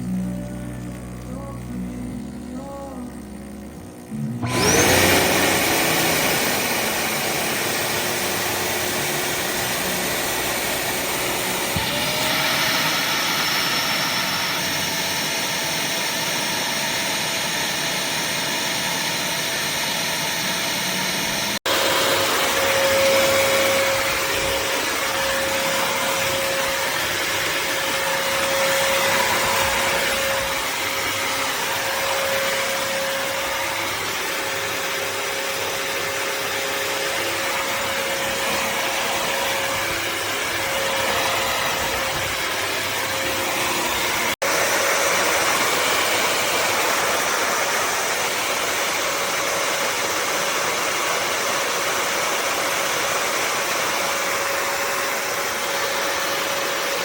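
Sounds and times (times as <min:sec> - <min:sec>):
floor cleaner motor whining: 0:00.0 - 0:57.0.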